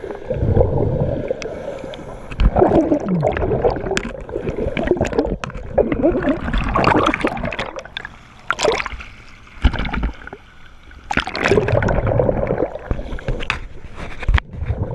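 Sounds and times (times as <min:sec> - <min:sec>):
underwater bubbling and gurgling: 0:00.0 - 0:14.9.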